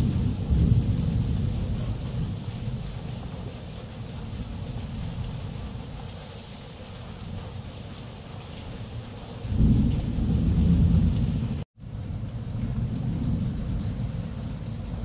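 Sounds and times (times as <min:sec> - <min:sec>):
heavy rain on leaves: 0:00.0 - 0:15.0.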